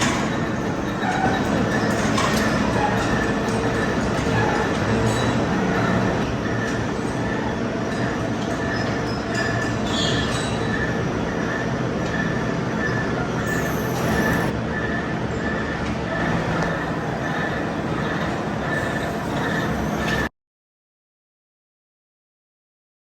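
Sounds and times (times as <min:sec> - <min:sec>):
metal-cutting machine running: 0:00.0 - 0:20.3.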